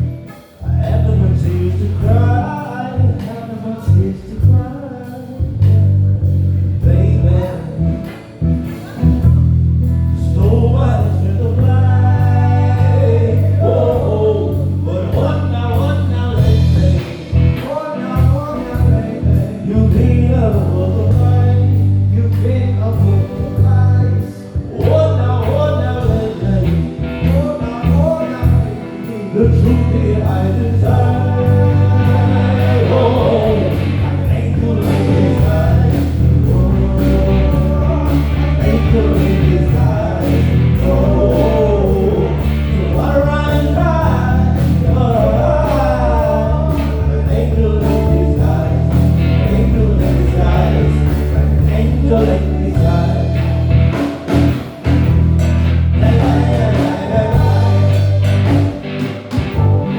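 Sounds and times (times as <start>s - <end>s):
live band music: 0.0s - 59.9s
melodic lead line: 5.4s - 59.9s.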